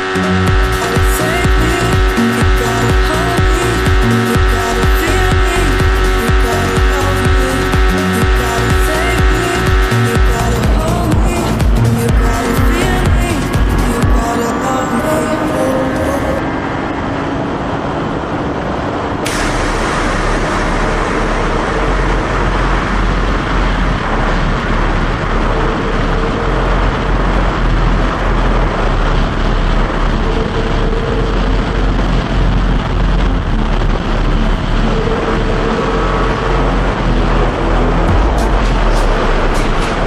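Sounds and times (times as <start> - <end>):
heavy low rumble: 0.0 - 40.0
motorcycle rushing noise: 0.0 - 40.0.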